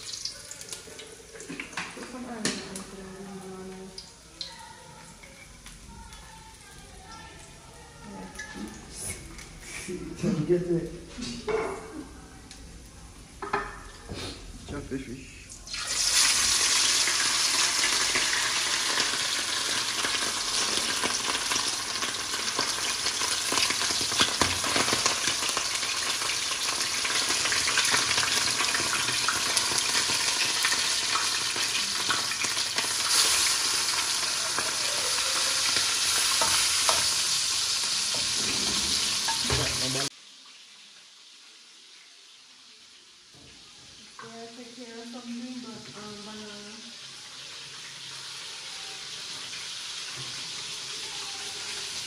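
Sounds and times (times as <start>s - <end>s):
fish sizzling in hot oil: 0.0s - 7.3s, 15.7s - 52.0s.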